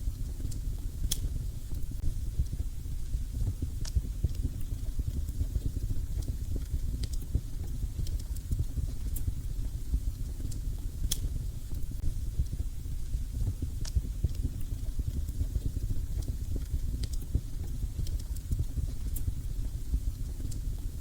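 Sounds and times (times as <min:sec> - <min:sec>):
fire crackling pops: 0:00.4 - 0:02.6, 0:03.4 - 0:12.6, 0:13.4 - 0:20.9.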